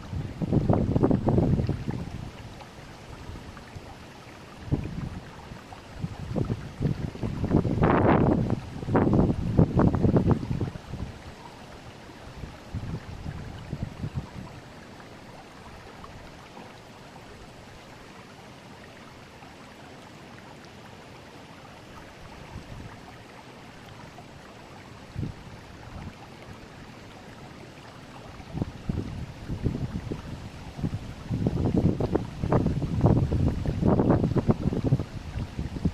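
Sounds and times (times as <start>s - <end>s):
river current rushing: 0.0s - 35.9s.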